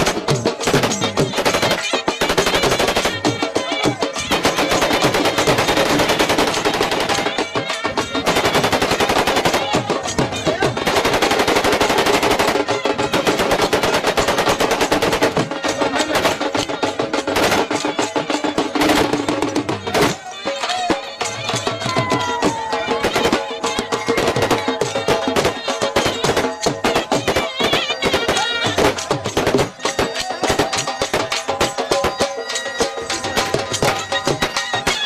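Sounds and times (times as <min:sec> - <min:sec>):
music: 0:00.0 - 0:35.0.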